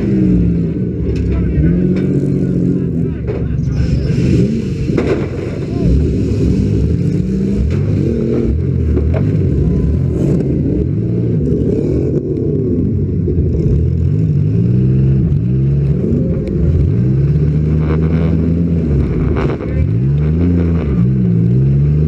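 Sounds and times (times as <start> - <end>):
car engine revving: 0.0 - 22.0
other car engines revving: 0.0 - 22.0.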